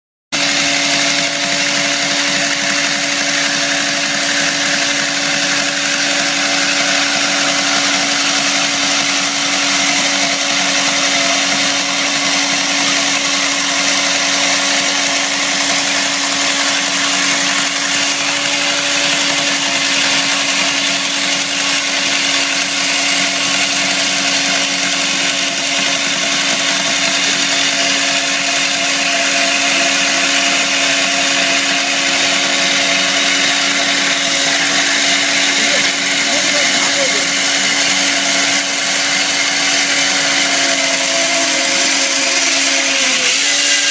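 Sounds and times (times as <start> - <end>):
chainsaw grinding concrete: 0.4 - 43.9.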